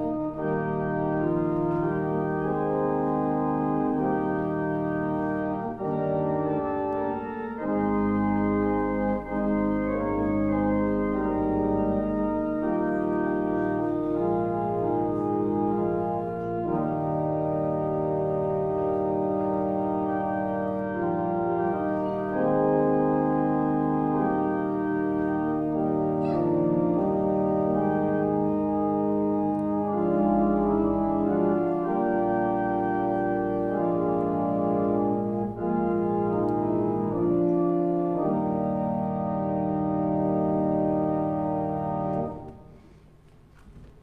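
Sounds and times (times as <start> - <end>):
organ playing sustained chords: 0.0 - 43.0.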